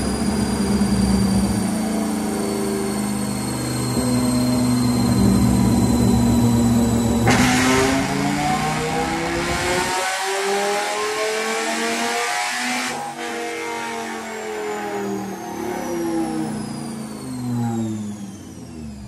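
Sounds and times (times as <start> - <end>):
engine revving at full throttle: 0.0 - 19.0.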